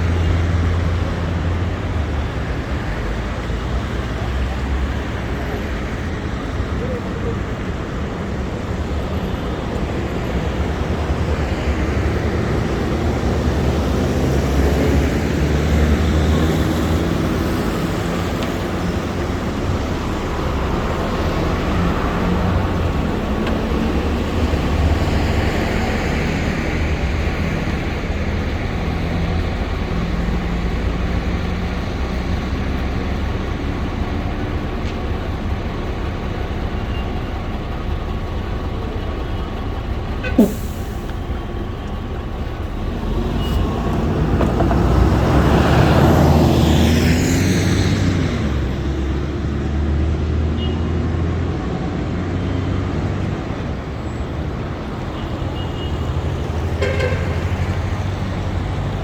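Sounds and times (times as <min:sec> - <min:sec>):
car and bus engines: 0:00.0 - 0:59.0
vehicles passing: 0:00.0 - 0:59.0.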